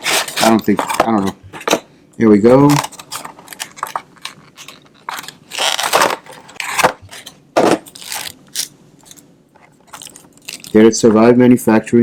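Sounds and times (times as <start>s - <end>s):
packaging crinkling and scraping: 0.0s - 1.7s, 2.4s - 10.9s.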